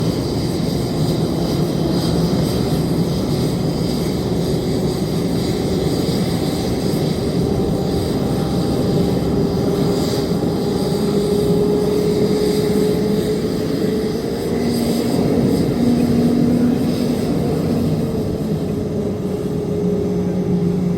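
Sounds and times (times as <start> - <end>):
jet engines running: 0.0 - 20.9.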